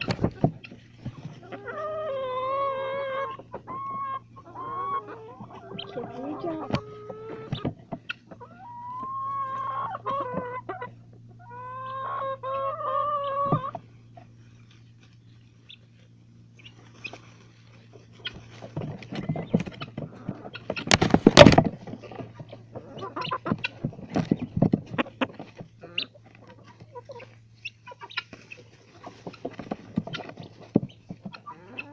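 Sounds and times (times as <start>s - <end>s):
chickens calling: 0.0s - 31.9s
chickens scratching and pecking: 0.0s - 31.9s.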